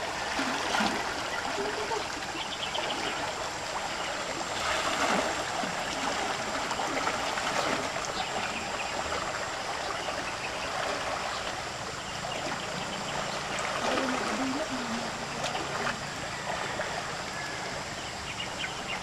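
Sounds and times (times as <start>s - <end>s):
river current rushing: 0.0s - 19.0s
water sloshing around wading person: 0.0s - 19.0s.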